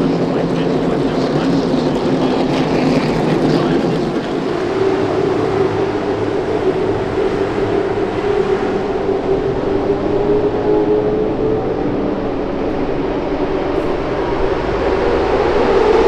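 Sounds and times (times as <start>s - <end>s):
race car engines droning: 0.0s - 16.0s.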